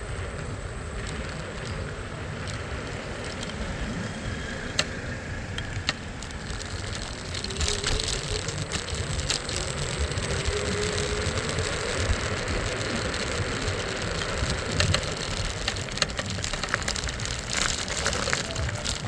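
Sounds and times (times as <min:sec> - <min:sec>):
low traffic rumble: 0:00.0 - 0:19.0
scooter engines running: 0:00.0 - 0:19.0.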